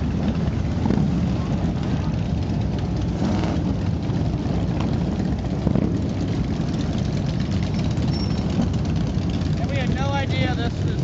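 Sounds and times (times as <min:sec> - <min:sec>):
many motorcycle engines rumbling: 0:00.0 - 0:11.0.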